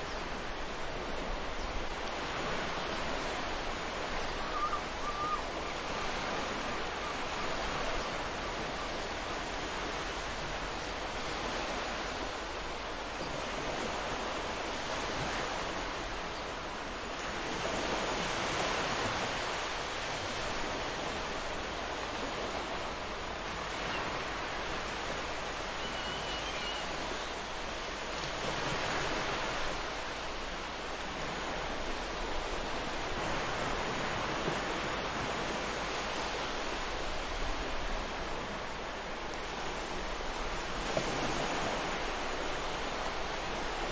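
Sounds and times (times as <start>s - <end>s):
ocean surf washing onto beach: 0.0s - 43.9s.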